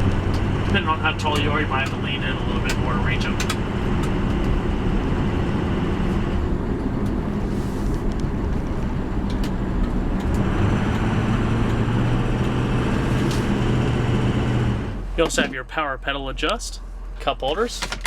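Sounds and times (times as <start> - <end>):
diesel engine low drone: 0.0 - 18.0.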